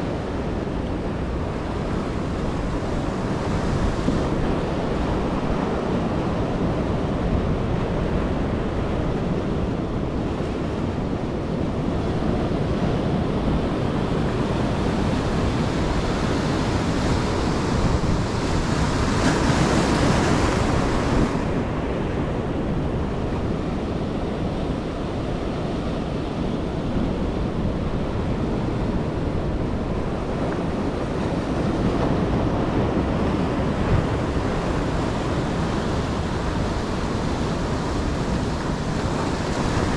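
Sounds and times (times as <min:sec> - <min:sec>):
surf breaking on a beach: 0:00.0 - 0:39.9
wind buffeting microphone: 0:00.0 - 0:39.9.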